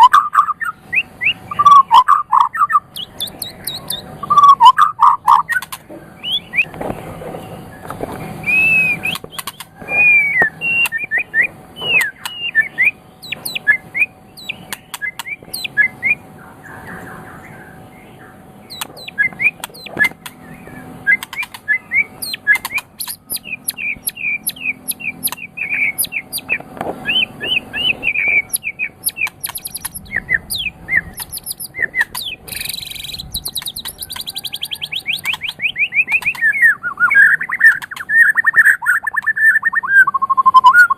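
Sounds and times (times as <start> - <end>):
bird singing whistled chirps: 0.0 - 6.8, 8.4 - 40.9.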